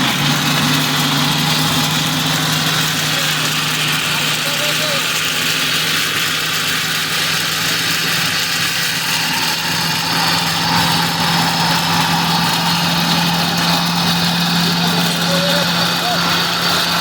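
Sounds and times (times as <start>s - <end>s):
engine humming with hiss: 0.0s - 17.0s.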